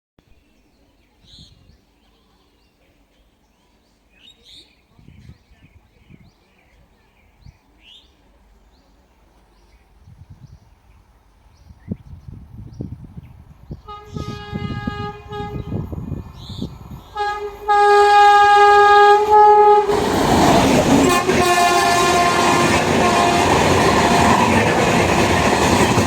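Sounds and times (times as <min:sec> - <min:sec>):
birds chirping: 0:00.3 - 0:26.0.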